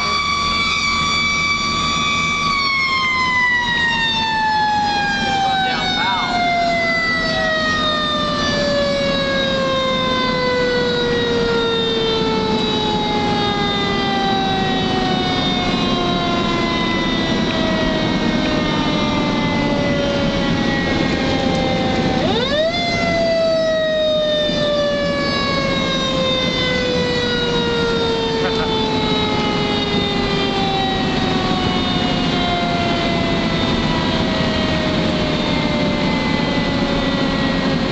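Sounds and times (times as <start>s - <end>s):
fire engine siren: 0.0s - 37.9s
truck engine running: 0.0s - 37.9s.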